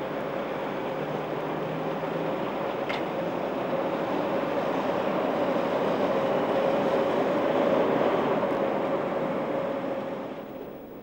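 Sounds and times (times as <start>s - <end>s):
train coaches rolling past: 0.0s - 11.0s.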